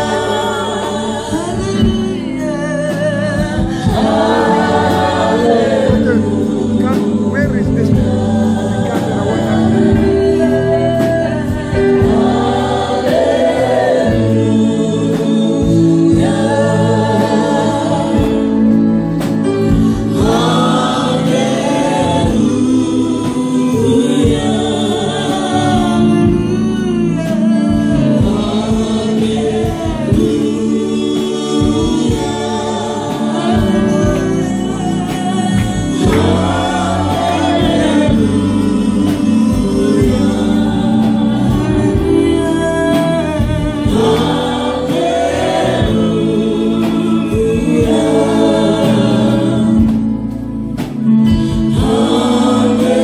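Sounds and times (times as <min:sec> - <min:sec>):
amplified band accompaniment: 0:00.0 - 0:53.0
group singing gospel song: 0:00.0 - 0:53.0.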